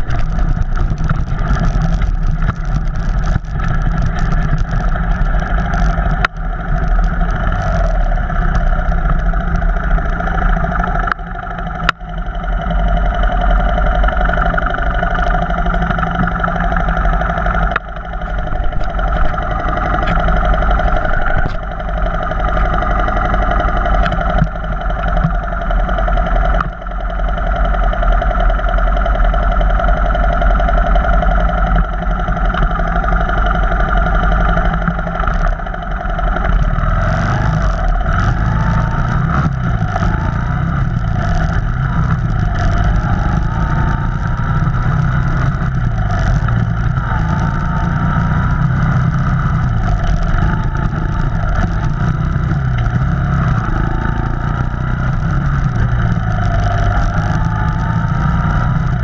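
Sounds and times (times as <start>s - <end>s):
off-road vehicle engine droning: 0.0s - 59.0s.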